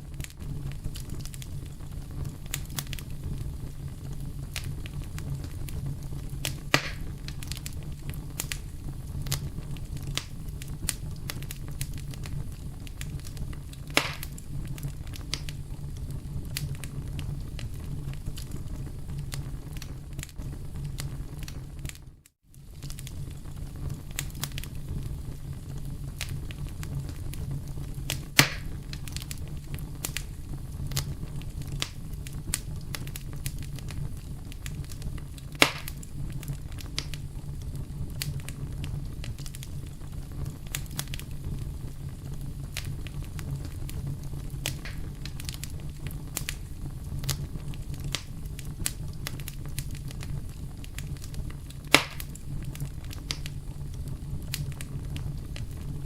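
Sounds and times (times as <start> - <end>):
fire flames rumbling: 0.0 - 56.0
fire popping: 0.0 - 56.0
wood fire crackling: 0.0 - 56.0.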